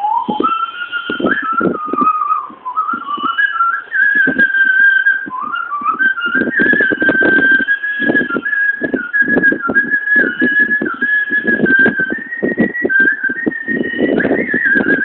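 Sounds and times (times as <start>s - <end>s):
low rhythmic thuds: 0.0s - 15.0s
person whistling a tune: 0.0s - 15.0s.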